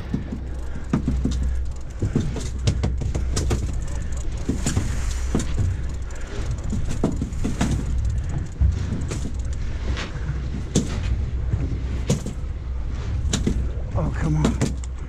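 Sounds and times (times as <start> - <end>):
jet ski engine running: 0.0 - 15.0
water splashing against hull: 0.0 - 15.0.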